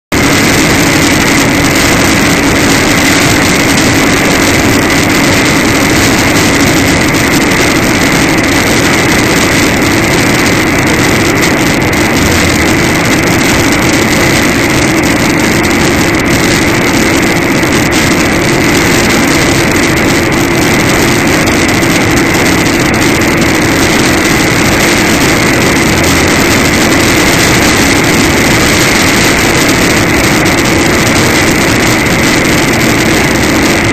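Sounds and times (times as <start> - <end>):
steady high whine: 0.0 - 33.9
vehicle engine drone: 0.0 - 33.9
road noise: 0.1 - 33.9.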